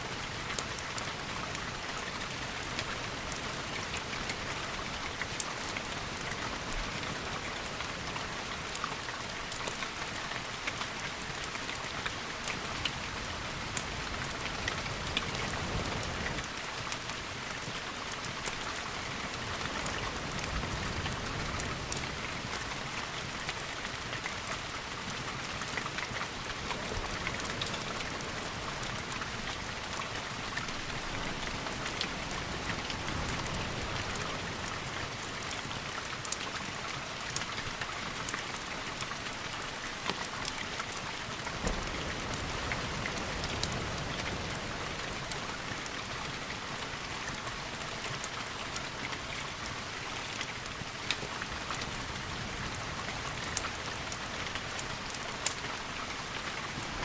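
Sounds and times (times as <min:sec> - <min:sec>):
heavy rain on windows: 0:00.0 - 0:57.0.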